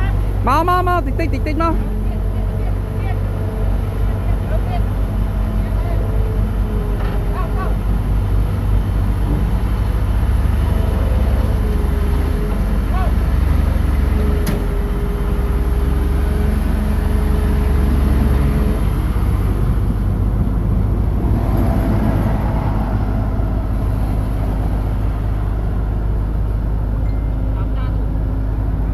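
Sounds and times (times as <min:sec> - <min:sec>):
heavy engine rumbling: 0:00.0 - 0:28.9.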